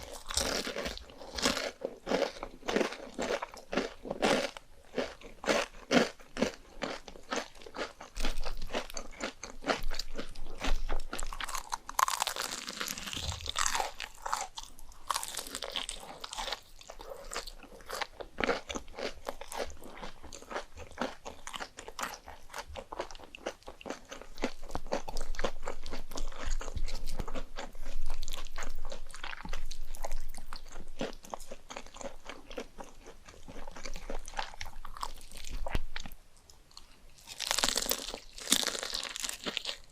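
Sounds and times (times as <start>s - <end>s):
person biting and chewing: 0.0s - 39.9s.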